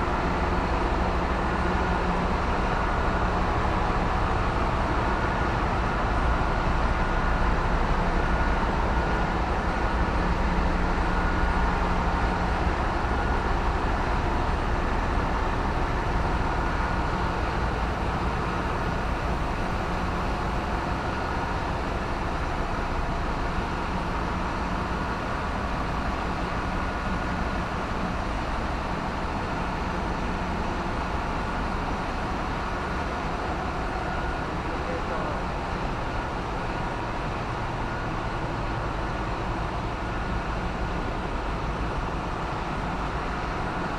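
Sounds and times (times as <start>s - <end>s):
engine room machinery drone: 0.0s - 43.9s.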